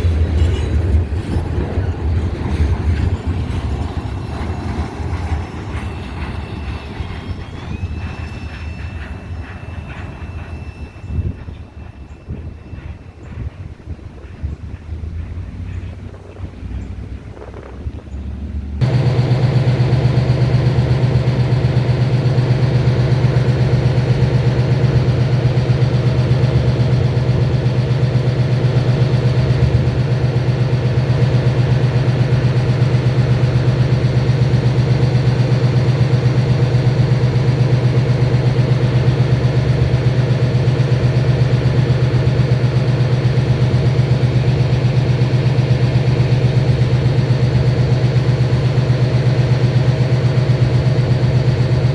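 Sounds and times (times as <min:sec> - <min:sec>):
engine running with low hum: 0:00.0 - 0:51.9.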